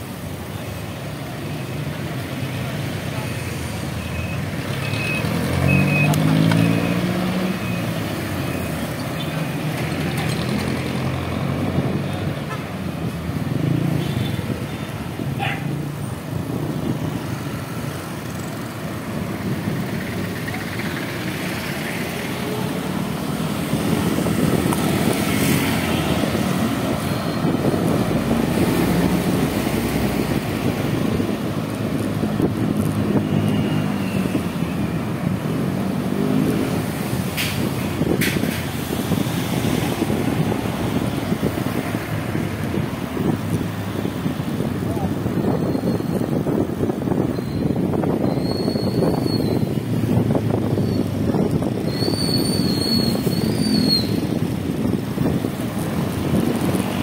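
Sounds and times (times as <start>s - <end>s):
steady road noise: 0.0s - 57.0s
vehicle engines revving: 0.0s - 57.0s.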